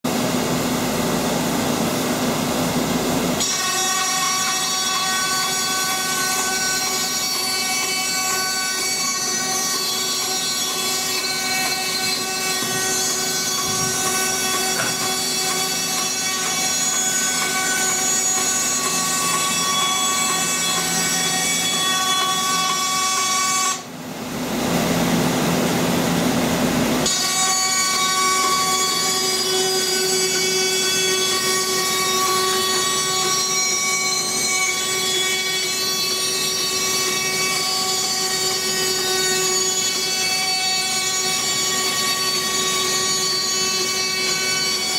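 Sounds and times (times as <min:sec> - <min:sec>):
band saw whining hum: 0:00.1 - 0:44.9.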